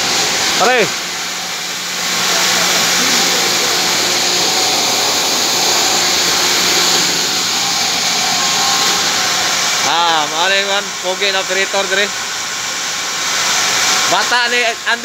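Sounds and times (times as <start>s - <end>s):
water pump motors whirring: 0.0s - 15.0s.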